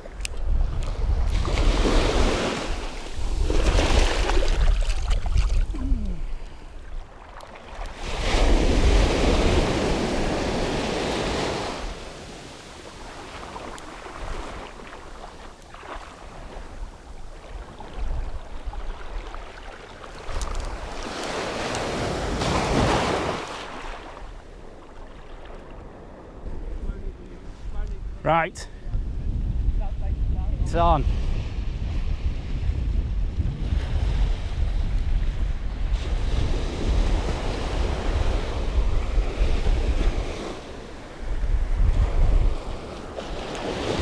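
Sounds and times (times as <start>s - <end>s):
sea waves breaking: 0.0s - 27.7s, 35.9s - 44.0s
wind buffeting microphone: 0.0s - 44.0s.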